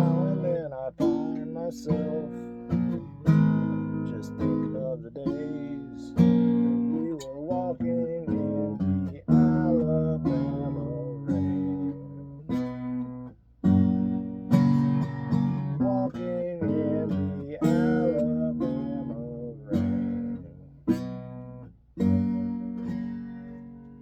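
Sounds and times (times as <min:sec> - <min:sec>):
acoustic guitar: 0:00.0 - 0:24.0.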